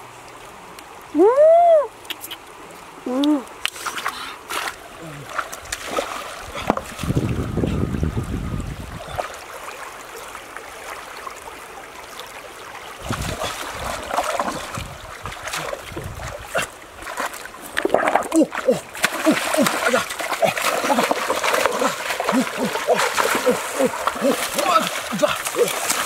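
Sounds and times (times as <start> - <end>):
water sloshing and splashing: 3.6 - 26.0.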